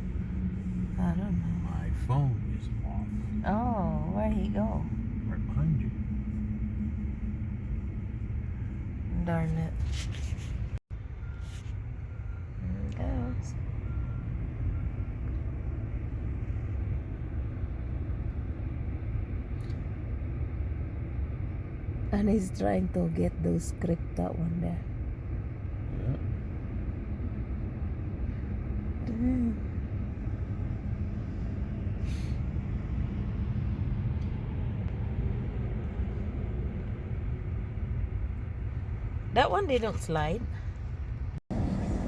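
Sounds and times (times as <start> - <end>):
vehicle engine rumbling: 0.0 - 42.0.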